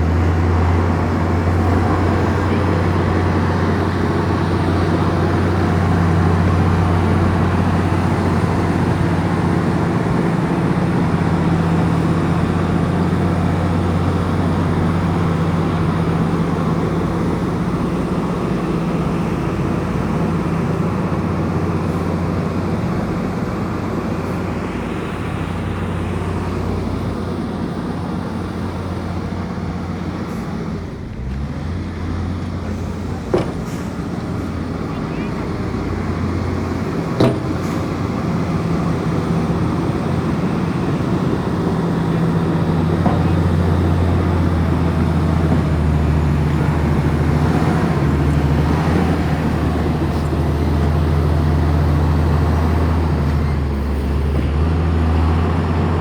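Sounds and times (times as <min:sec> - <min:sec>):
bulldozer diesel engine humming: 0:00.0 - 0:56.0.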